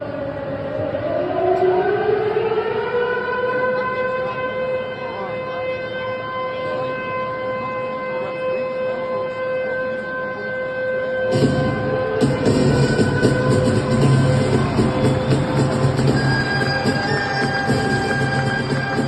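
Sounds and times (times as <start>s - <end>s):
crowd noise: 0.0s - 19.0s
siren wailing: 0.0s - 19.0s.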